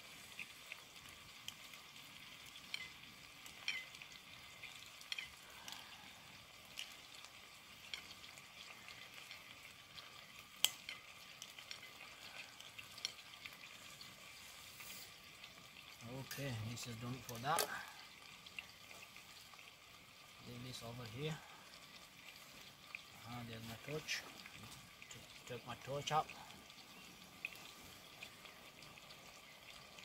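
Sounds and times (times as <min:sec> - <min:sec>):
curry sizzling in a pot: 0:00.0 - 0:30.0.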